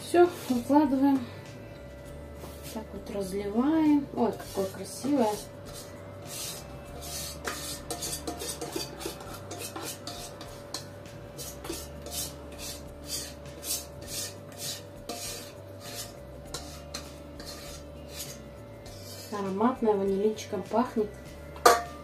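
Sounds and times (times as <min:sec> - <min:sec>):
whisk scraping metal bowl: 0:02.4 - 0:22.0.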